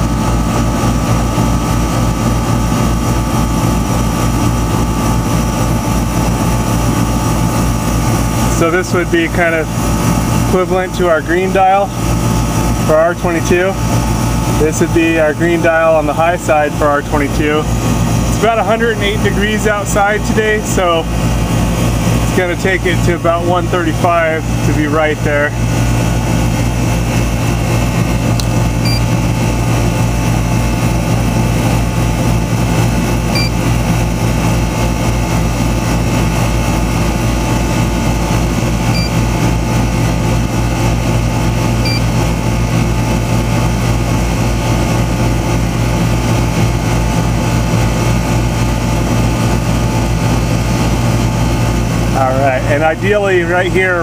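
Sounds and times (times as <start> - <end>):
compressor humming: 0.0 - 54.0
condenser fan rushing: 0.0 - 54.0.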